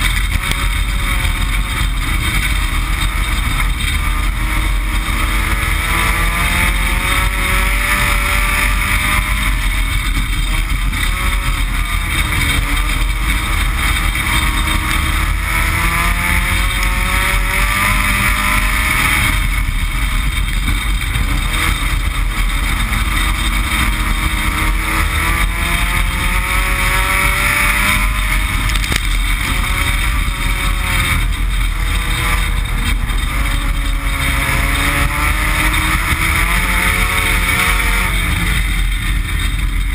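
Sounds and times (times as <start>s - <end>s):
race car engine revving: 0.0s - 39.9s
wind and road noise: 0.0s - 39.9s.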